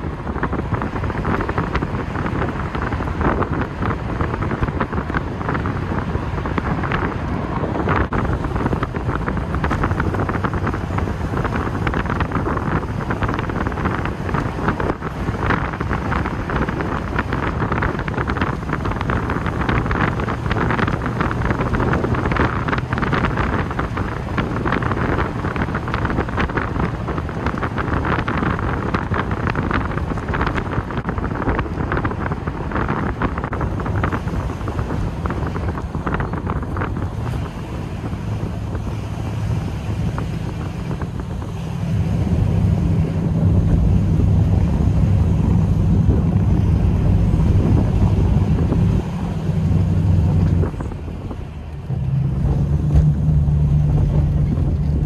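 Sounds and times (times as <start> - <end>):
car engine running: 0.0 - 55.0
road noise: 0.0 - 55.0
wind buffeting microphone: 0.0 - 55.0.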